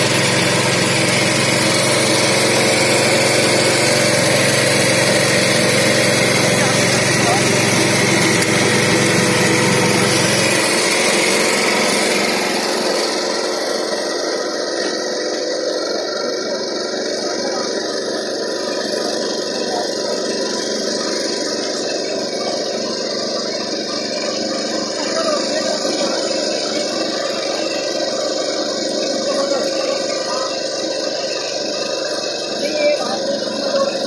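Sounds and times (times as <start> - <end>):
small tractor engine running: 0.0 - 34.0.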